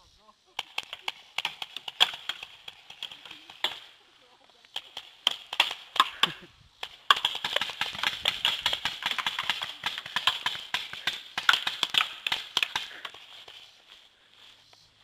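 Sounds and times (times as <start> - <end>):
paintball markers firing: 0.6 - 4.0, 4.6 - 14.0.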